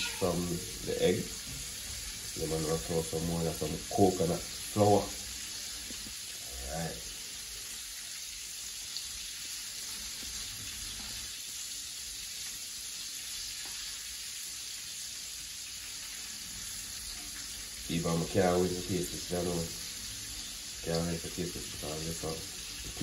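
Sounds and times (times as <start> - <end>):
food frying in hot oil: 0.0 - 23.0.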